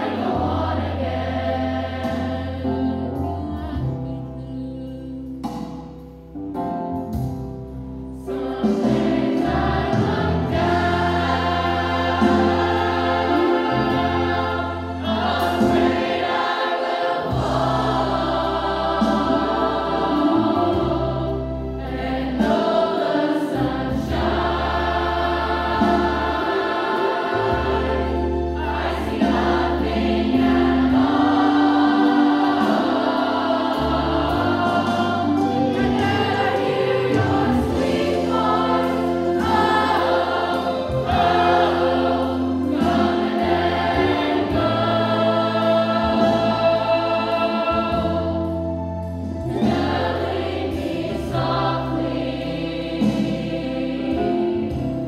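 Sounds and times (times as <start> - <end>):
choir singing in parts: 0.0 - 5.8, 8.1 - 55.0
accompaniment with bass line: 0.0 - 16.6, 17.2 - 55.0.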